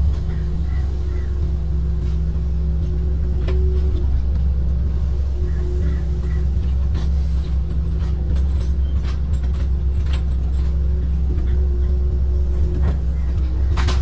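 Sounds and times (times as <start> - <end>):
diesel engine running: 0.0 - 14.0
hydraulic arm moving: 0.0 - 14.0.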